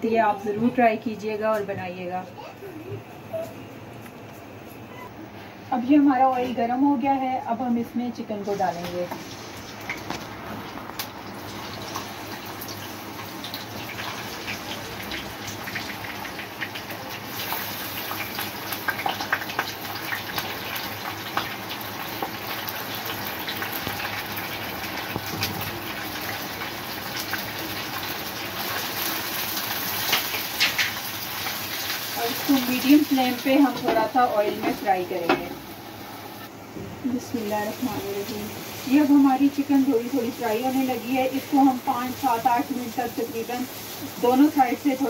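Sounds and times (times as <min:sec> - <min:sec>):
chicken sizzling in hot oil: 0:08.2 - 0:36.5, 0:37.1 - 0:45.0.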